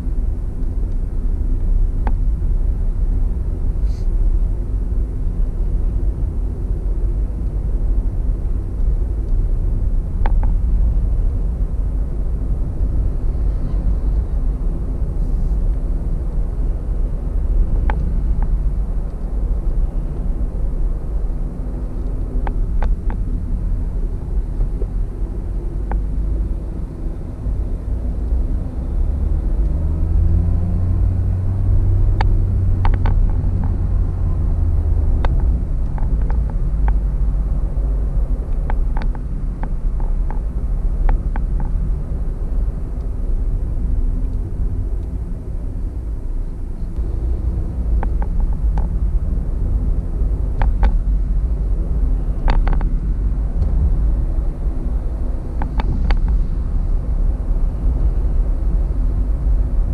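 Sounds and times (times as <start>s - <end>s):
car tyre and engine rumble: 0.0s - 59.9s.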